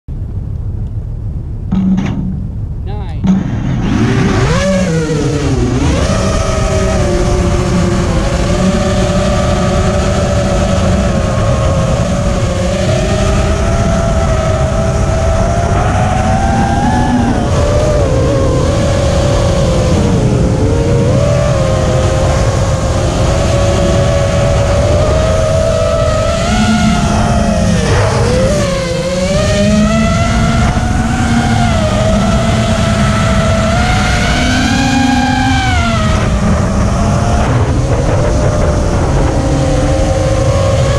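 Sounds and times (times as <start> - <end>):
low rushing noise: 0.1 - 40.9
quadcopter motors whining: 3.9 - 40.9.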